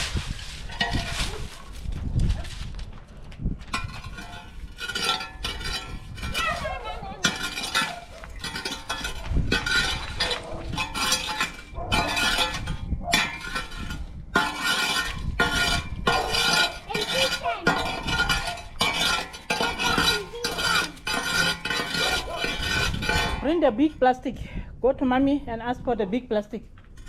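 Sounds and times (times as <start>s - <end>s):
wind rumbling on microphone: 0.0s - 20.5s, 21.9s - 27.0s
debris rustling and clattering: 0.0s - 24.0s.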